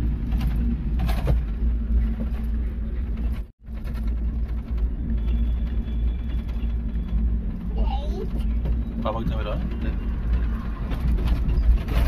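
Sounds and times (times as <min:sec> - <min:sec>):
vehicle interior rumble and hum: 0:00.0 - 0:12.0.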